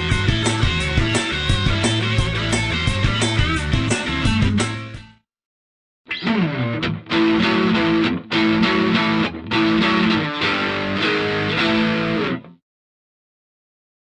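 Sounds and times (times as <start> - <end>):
distorted electric guitar chords: 0.0 - 5.2, 6.1 - 12.6.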